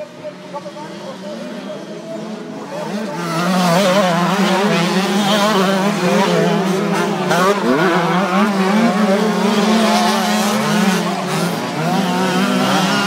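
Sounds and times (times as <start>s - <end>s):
motocross bikes racing: 0.0s - 13.0s.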